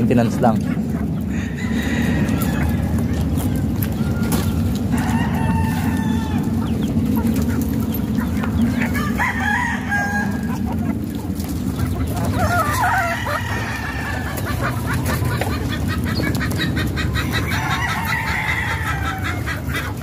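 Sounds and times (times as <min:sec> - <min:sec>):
hens clucking: 0:00.0 - 0:20.0
steady low rumble: 0:00.0 - 0:20.0
roosters crowing: 0:00.2 - 0:20.0.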